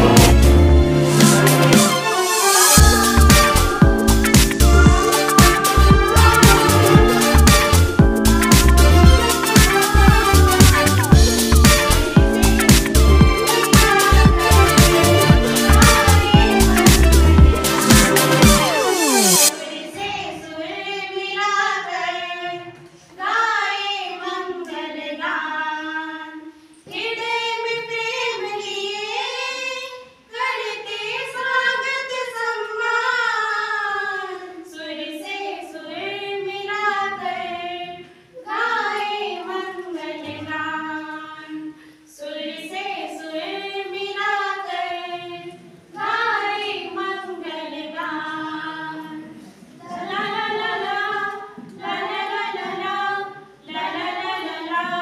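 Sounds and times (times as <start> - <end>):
young women singing together: 2.4 - 11.4, 13.2 - 17.0, 17.8 - 55.0.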